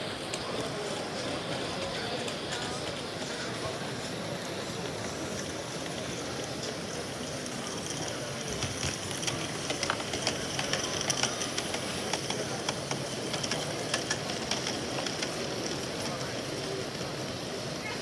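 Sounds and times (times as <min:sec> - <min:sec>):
model steam locomotive hissing: 0:00.0 - 0:18.0
steady background noise: 0:00.0 - 0:18.0
wheels clicking on track: 0:00.0 - 0:18.0.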